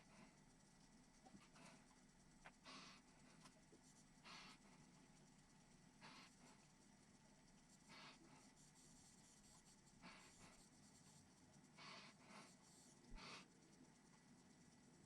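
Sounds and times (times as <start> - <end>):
faint scratchy rasps: 0.0 - 14.6.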